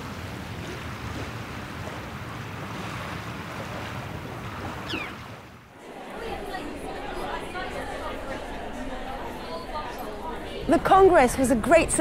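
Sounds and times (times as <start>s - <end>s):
steady wind: 0.0s - 12.0s
water washing along shore: 0.0s - 12.0s.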